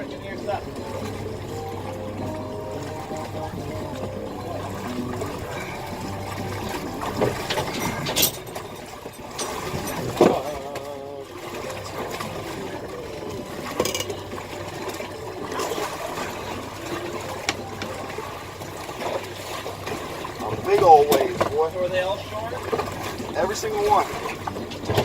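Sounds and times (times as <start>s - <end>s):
boat motor idling: 0.0s - 25.0s
water splashing against hull: 0.0s - 25.0s.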